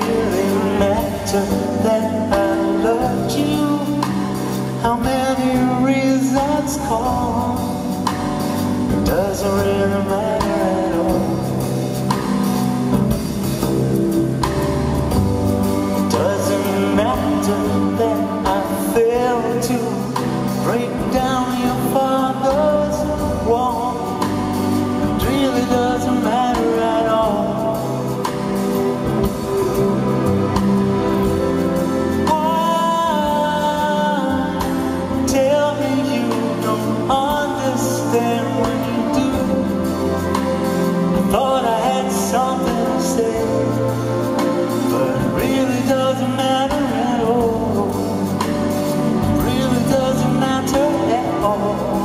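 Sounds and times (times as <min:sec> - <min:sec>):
man singing a ballad: 0:00.0 - 0:12.6, 0:16.0 - 0:28.7, 0:32.1 - 0:52.0.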